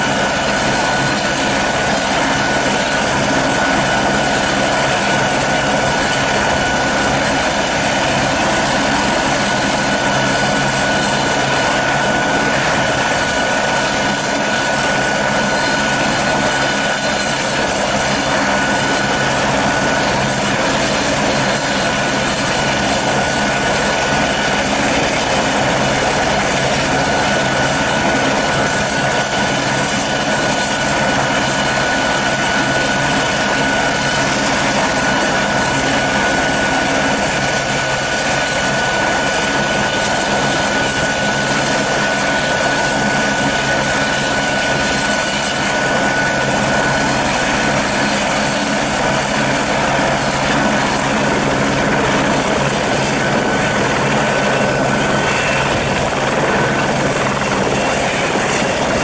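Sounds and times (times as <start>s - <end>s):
helicopter turbine whine: 0.0s - 59.0s.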